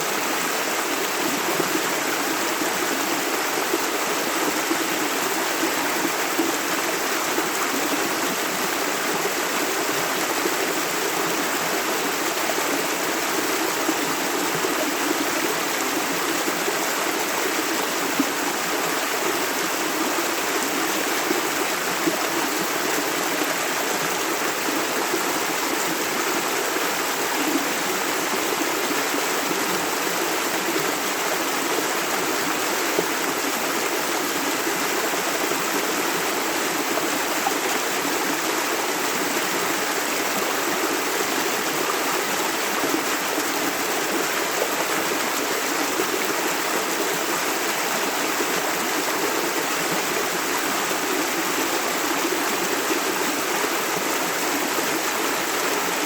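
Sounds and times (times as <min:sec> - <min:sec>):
river running over stones: 0:00.0 - 0:56.0.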